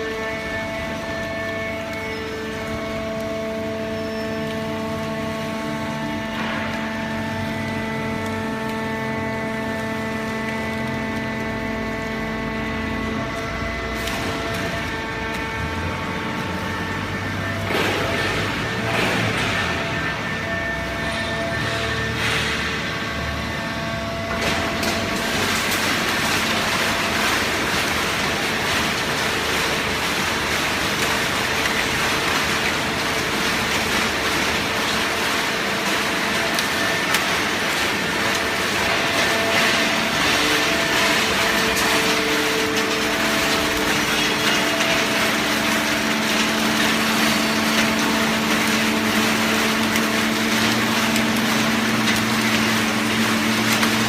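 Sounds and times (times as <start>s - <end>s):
hydraulic baler running: 0.0s - 54.0s.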